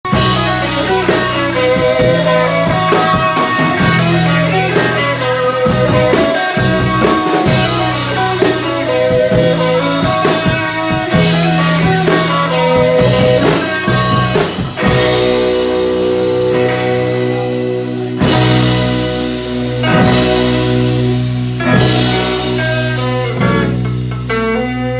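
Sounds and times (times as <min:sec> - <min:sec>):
drum kit beat: 0:00.0 - 0:24.8
bass: 0:00.0 - 0:24.9
electric guitar: 0:00.0 - 0:24.9.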